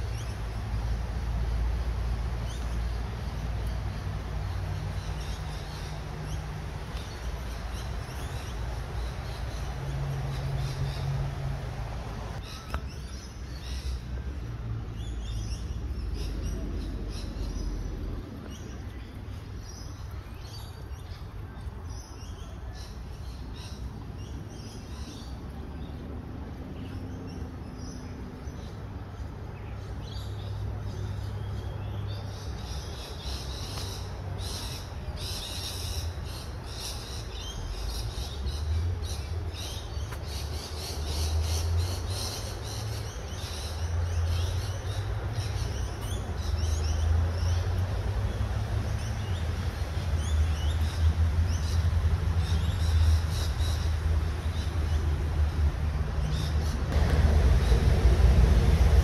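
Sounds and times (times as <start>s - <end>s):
birds chirping: 0.0s - 58.2s.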